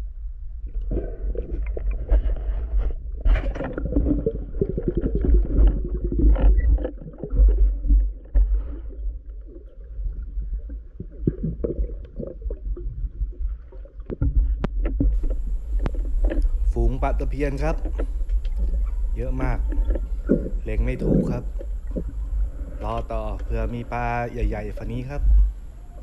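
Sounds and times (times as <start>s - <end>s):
underwater water rumble: 0.0s - 26.0s.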